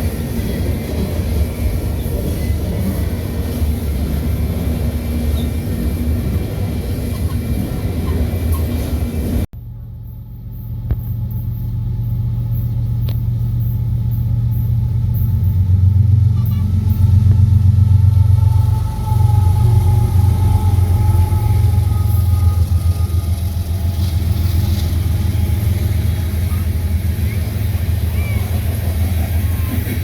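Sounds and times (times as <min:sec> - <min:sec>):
diesel train rumbling: 0:00.0 - 0:30.0
low diesel engine hum: 0:00.0 - 0:30.0.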